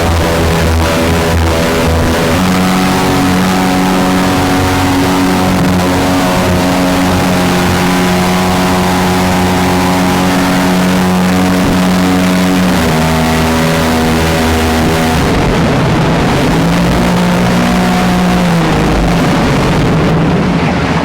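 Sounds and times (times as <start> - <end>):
jet boat engine running: 0.0 - 21.0.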